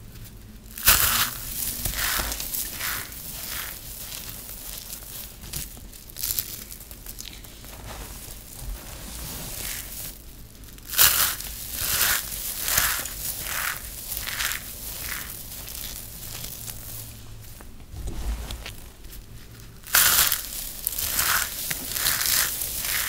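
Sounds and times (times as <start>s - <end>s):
soap shreds crunching: 0.7s - 17.8s, 18.5s - 23.0s.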